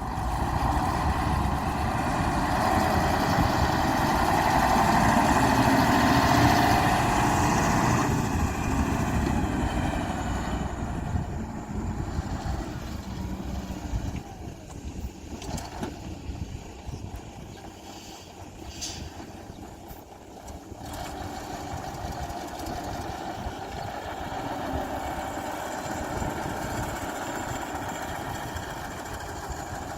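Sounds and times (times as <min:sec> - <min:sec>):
construction machine engine running: 0:00.0 - 0:29.9.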